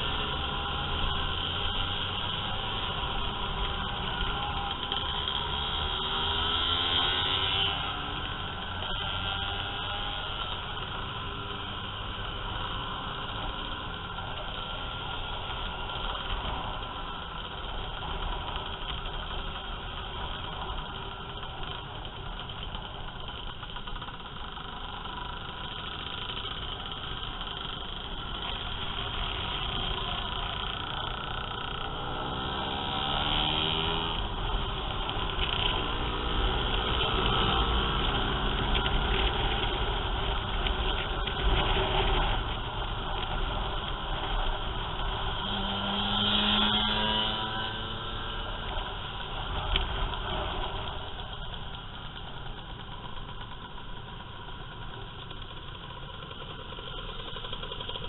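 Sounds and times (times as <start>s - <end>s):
motorcycle engines running: 0.0s - 58.0s
wind and road noise: 0.0s - 58.0s.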